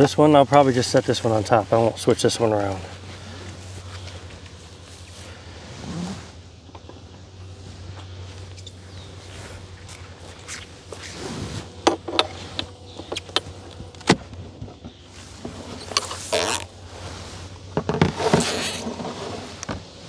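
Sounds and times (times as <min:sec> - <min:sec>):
wood scraping and rustling: 0:00.0 - 0:20.0.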